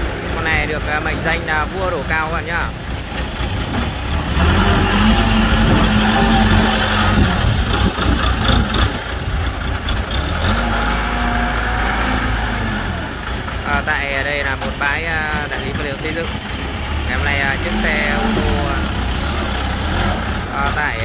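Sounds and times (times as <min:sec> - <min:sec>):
wheel loader engine revving: 0:00.0 - 0:21.0.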